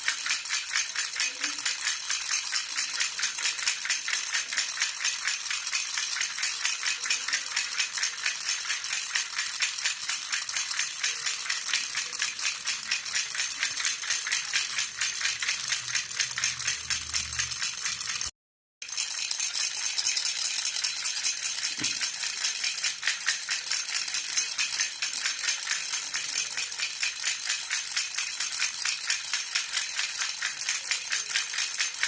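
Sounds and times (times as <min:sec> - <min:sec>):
baby rattle jingling: 0:00.0 - 0:32.0.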